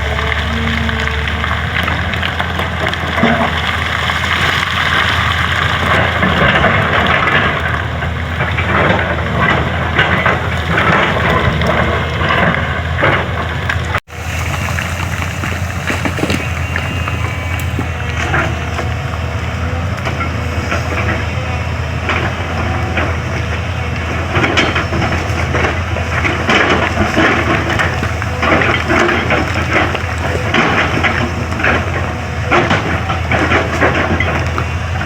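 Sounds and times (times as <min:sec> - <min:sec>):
bucket crunching road surface: 0:00.0 - 0:35.0
diesel engine running: 0:00.0 - 0:35.0.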